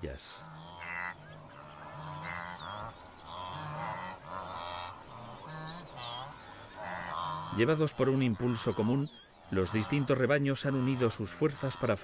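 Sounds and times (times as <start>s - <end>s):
wildebeest honking grunts: 0.0s - 12.0s.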